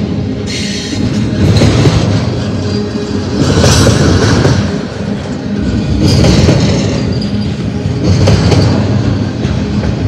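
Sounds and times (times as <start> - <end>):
train wheels rumbling on rail: 0.0 - 10.0
wheels clickety-clack: 0.5 - 10.0.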